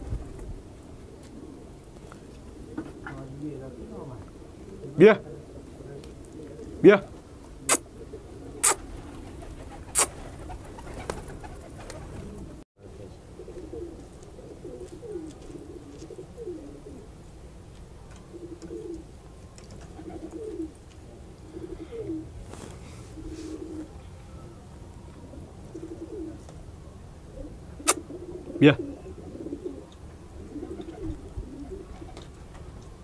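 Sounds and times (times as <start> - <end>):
pigeons cooing: 0.0 - 17.4, 18.0 - 24.0, 25.2 - 26.6, 27.2 - 33.0.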